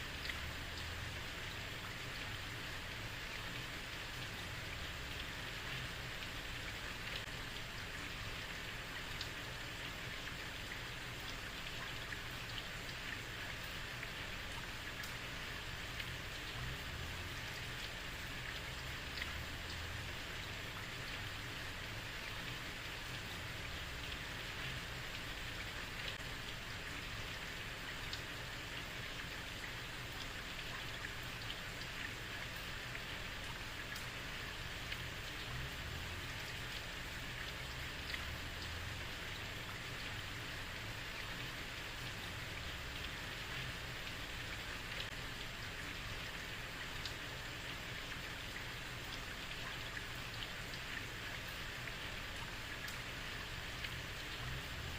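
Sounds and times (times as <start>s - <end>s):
heavy rain on a street: 0.0s - 54.9s.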